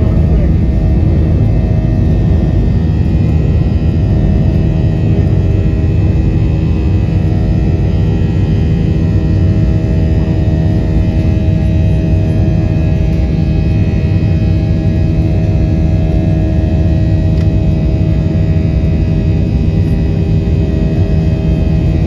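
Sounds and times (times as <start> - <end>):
jet engine rumble in cabin: 0.0 - 22.0
jet engine whining tones: 0.0 - 22.0.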